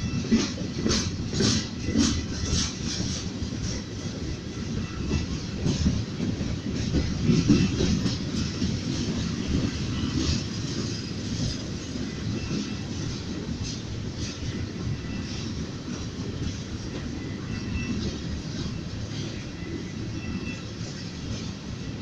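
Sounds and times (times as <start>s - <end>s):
freight train rumbling: 0.0s - 22.0s
wheels clicking over rail joints: 0.0s - 22.0s.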